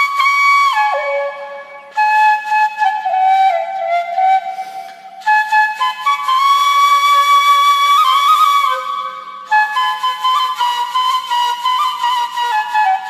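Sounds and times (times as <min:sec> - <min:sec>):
flute melody: 0:00.0 - 0:13.0.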